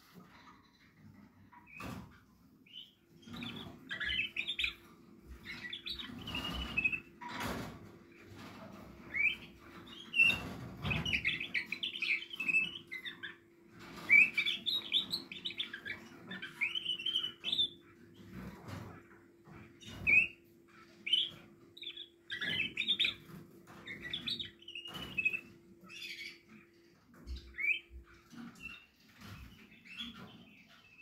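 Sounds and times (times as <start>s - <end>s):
canaries chirping and twittering: 0.0s - 31.0s.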